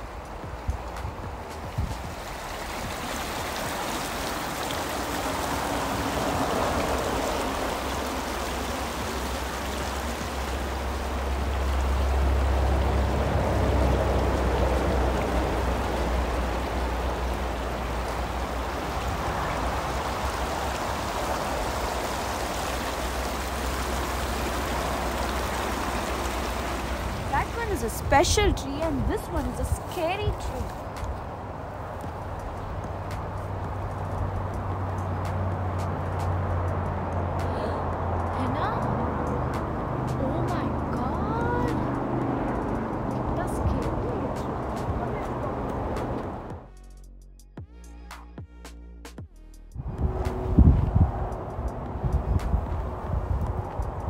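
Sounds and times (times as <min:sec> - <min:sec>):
deep water rumble: 0:00.0 - 0:46.6, 0:49.8 - 0:54.0
stream water rushing: 0:00.0 - 0:46.7, 0:49.8 - 0:54.0.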